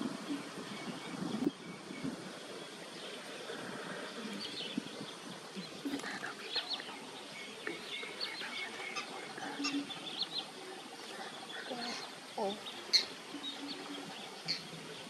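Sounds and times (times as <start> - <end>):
birds chirping: 0.0 - 15.0
steady background hiss: 0.0 - 15.0.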